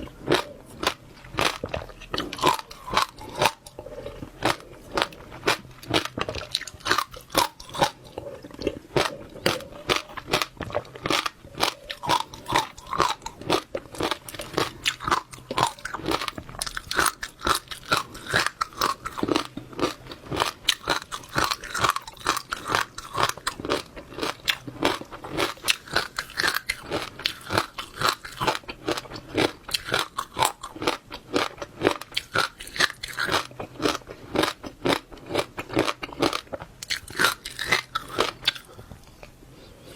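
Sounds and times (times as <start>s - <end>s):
chewing crunchy seeds: 0.0s - 39.3s.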